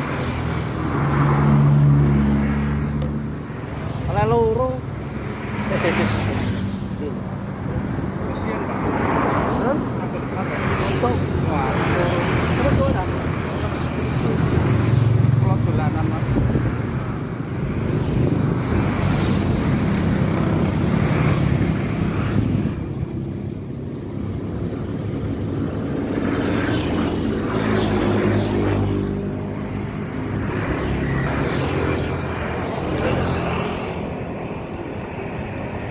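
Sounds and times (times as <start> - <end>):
traffic passing: 0.0 - 35.9.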